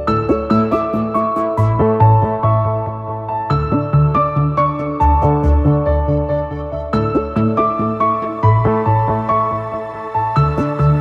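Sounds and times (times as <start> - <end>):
gentle new-age music: 0.0 - 11.0.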